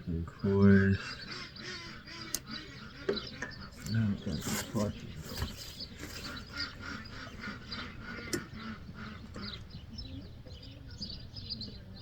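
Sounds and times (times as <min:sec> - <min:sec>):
bird calling: 0:00.3 - 0:12.0.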